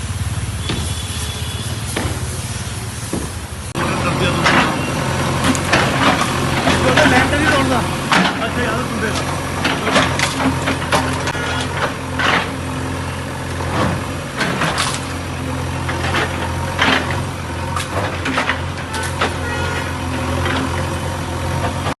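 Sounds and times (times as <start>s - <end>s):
bulldozer diesel engine running: 0.0s - 22.0s
machine knocks and clatters: 4.2s - 22.0s.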